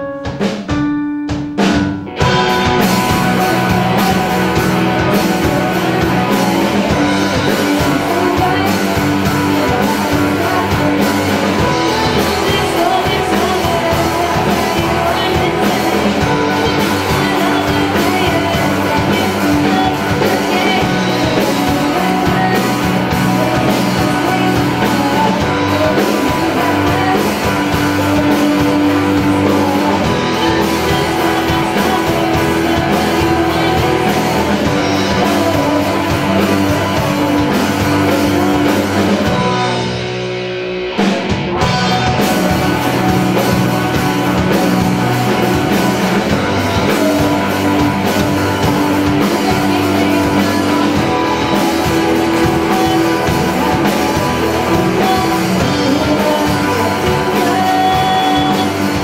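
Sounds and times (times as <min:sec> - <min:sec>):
live rock band: 0:00.0 - 0:59.0.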